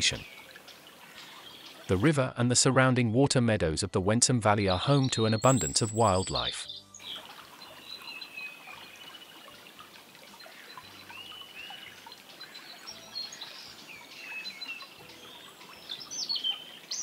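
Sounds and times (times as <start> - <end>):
river water running: 0.0 - 2.3, 4.8 - 17.0.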